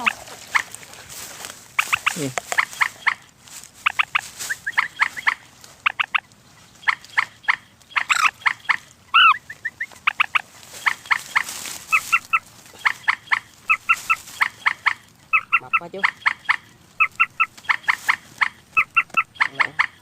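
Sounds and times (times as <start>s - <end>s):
rail calling sharp notes: 1.8s - 20.0s.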